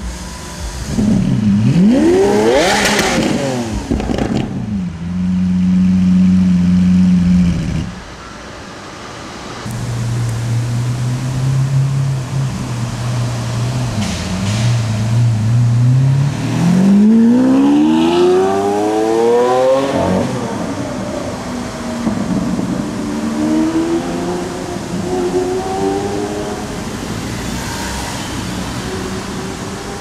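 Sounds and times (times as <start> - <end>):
car engine accelerating: 0.0 - 8.0, 9.7 - 30.0.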